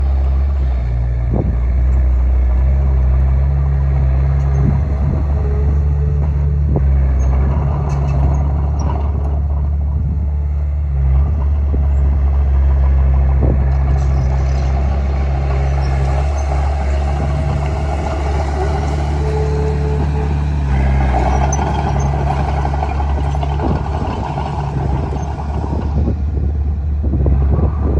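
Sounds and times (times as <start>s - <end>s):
bulldozer diesel engine: 0.0s - 27.9s.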